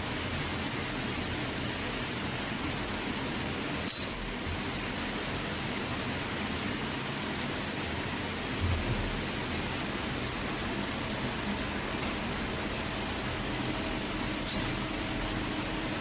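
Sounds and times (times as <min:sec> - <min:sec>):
steady even hiss: 0:00.0 - 0:16.0.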